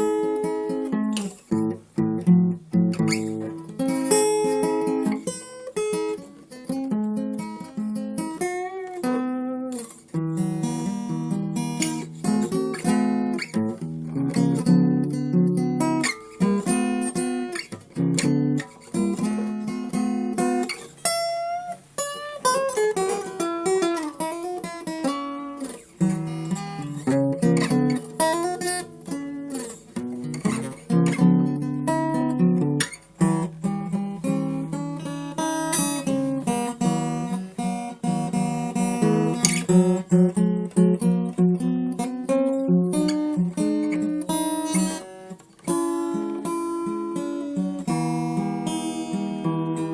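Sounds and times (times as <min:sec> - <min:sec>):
guitar playing: 0:00.0 - 0:49.9.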